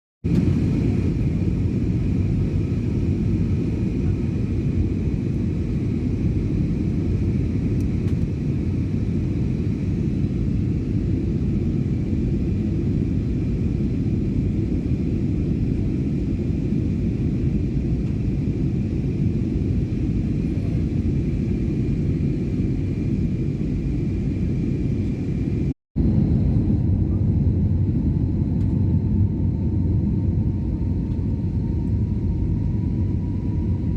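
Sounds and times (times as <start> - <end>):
jet engines and airflow rumble: 0.2 - 33.9.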